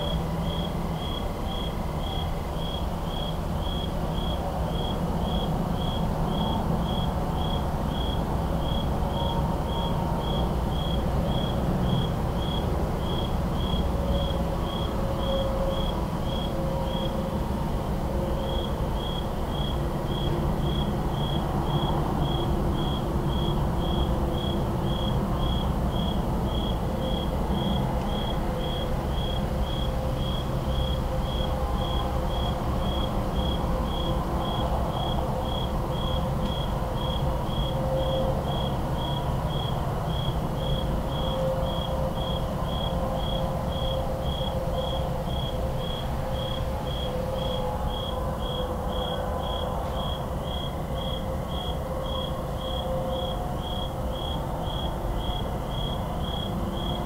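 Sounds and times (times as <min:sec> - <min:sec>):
cricket chirping: 0:00.0 - 0:17.3, 0:18.1 - 0:57.0
distant highway traffic rumble: 0:00.0 - 0:57.0.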